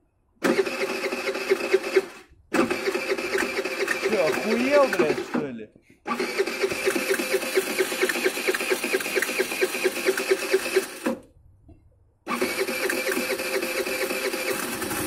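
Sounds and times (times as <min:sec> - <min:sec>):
moped electric starter cranking: 0:00.4 - 0:11.3, 0:12.2 - 0:15.0.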